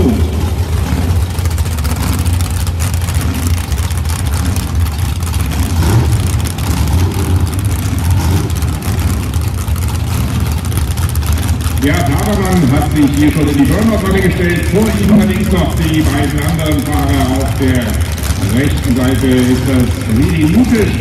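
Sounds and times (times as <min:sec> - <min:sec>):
drag racing engines rumbling: 0:00.0 - 0:21.0.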